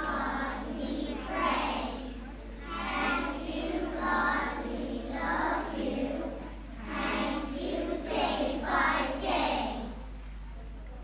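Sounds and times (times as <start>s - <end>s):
young children singing together: 0.0s - 10.2s.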